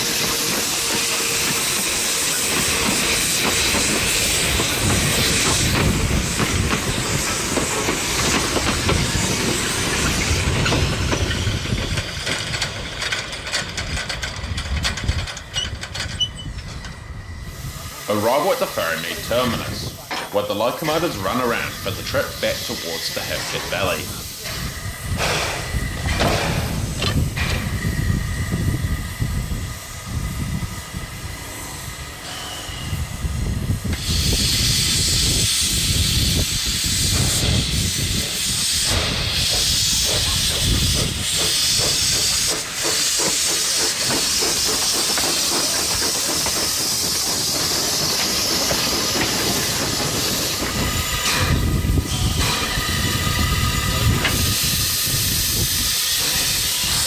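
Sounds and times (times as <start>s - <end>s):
steam hissing: 0.0s - 15.6s, 16.8s - 57.0s
wheels rumbling and clanking on rail: 0.0s - 57.0s.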